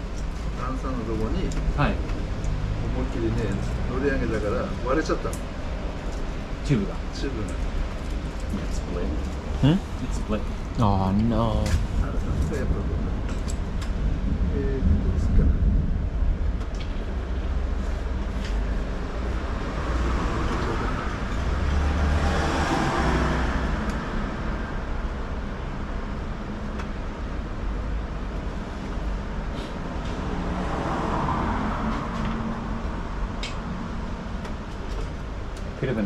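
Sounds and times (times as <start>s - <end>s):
traffic rumble: 0.0s - 36.0s
vehicles passing: 0.0s - 36.0s.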